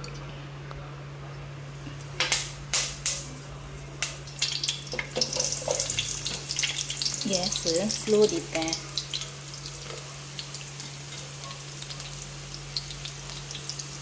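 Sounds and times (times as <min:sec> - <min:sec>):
hot oil spitting and sizzling: 0:01.6 - 0:14.0.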